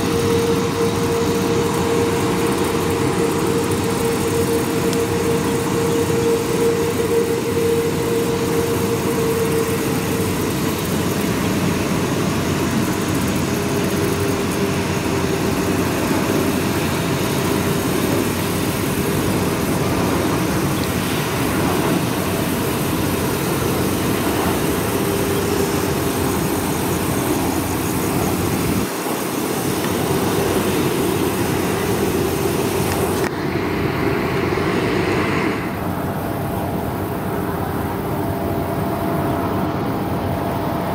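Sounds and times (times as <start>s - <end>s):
jet engine rumble with whine: 0.0s - 40.9s.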